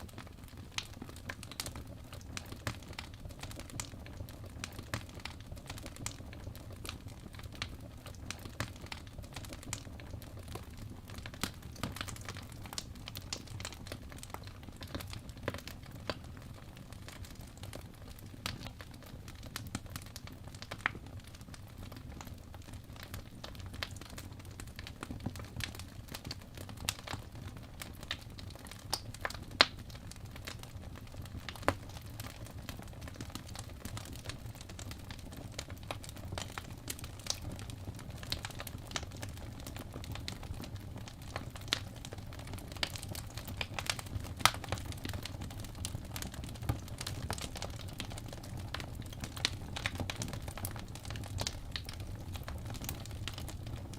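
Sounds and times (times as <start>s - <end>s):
logs crackling and popping: 0.0s - 53.9s
low rumble of flames: 0.0s - 53.9s.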